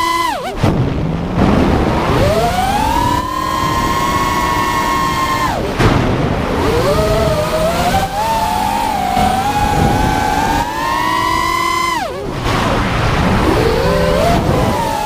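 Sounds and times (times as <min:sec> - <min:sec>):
quadcopter motors whining: 0:00.0 - 0:00.6, 0:02.1 - 0:05.8, 0:06.5 - 0:15.0.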